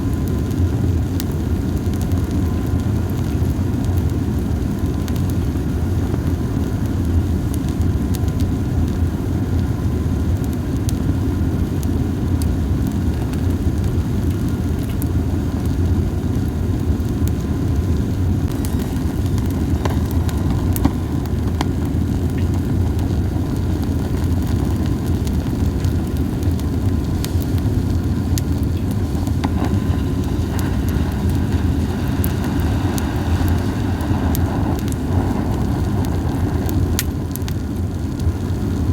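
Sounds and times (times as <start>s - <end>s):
campfire crackles: 0.0s - 38.9s
low fire rumble: 0.0s - 38.9s.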